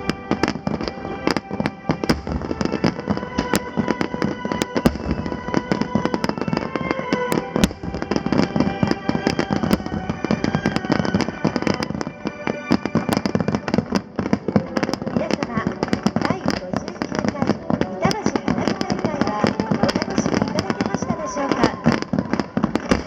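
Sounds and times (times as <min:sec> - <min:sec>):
fireworks bursting and crackling: 0:00.0 - 0:23.0
music playing: 0:00.0 - 0:23.0.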